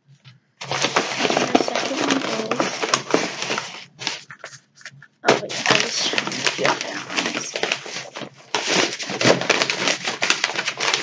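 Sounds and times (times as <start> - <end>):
plastic packet crinkling: 0.6 - 11.0.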